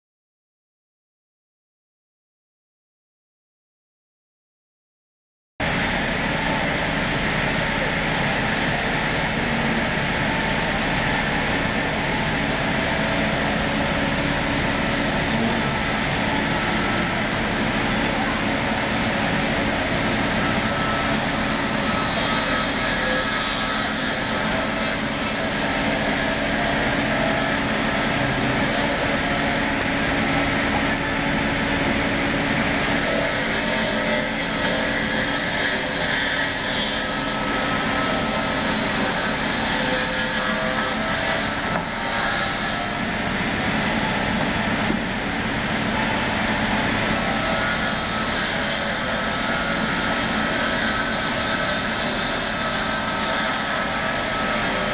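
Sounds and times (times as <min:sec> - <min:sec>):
log-sawing machine running: 0:05.6 - 0:54.9.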